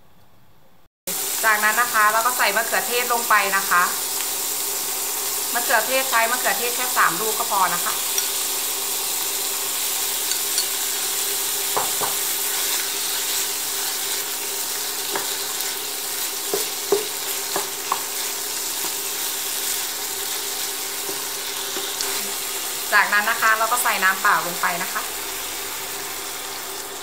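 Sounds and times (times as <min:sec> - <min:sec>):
meat sizzling in a frying pan: 0:01.1 - 0:27.0.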